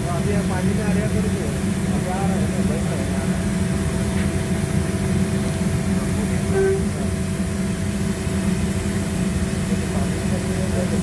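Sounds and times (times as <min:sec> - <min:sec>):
low machinery rumble: 0:00.0 - 0:11.0.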